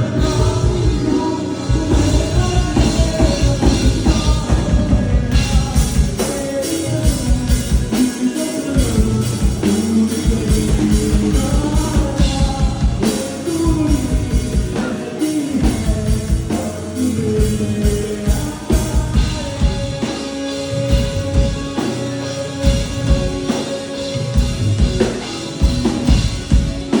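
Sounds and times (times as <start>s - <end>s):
person singing: 0.0s - 27.0s
rock band playing live: 0.0s - 27.0s.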